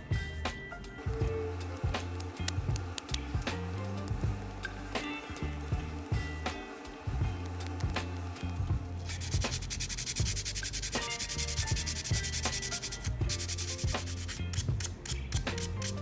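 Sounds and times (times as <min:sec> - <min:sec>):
background music: 0:00.0 - 0:16.0
sandpaper rubbing back and forth: 0:01.1 - 0:16.0.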